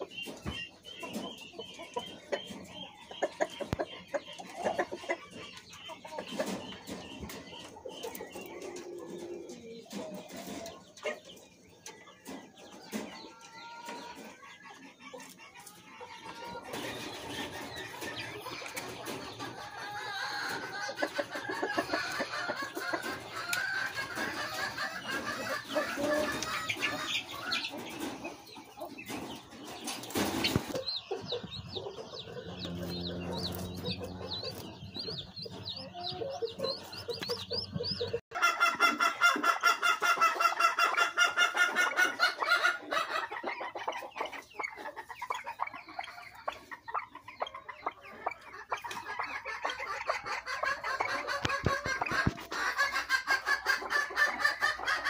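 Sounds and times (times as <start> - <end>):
chicks peeping shrilly: 0.0 - 55.0
dense chorus of bird calls: 0.0 - 55.0
pheasants calling and clucking: 0.0 - 55.0.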